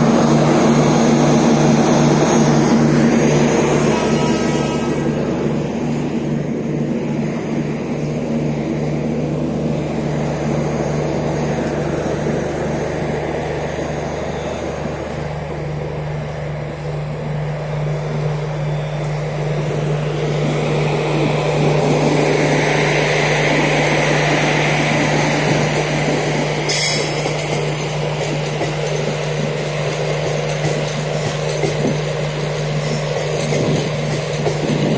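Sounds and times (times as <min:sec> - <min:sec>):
electric locomotive hum: 0:00.0 - 0:34.9
wheels rumbling on rails: 0:00.0 - 0:34.9.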